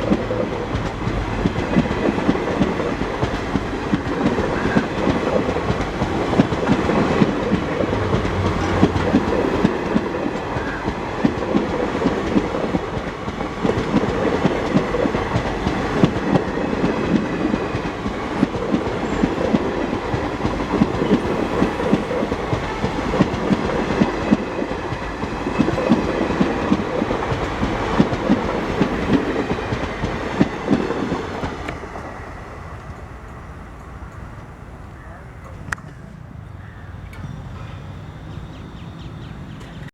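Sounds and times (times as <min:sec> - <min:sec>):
train wheels clattering over rail joints: 0:00.0 - 0:36.2.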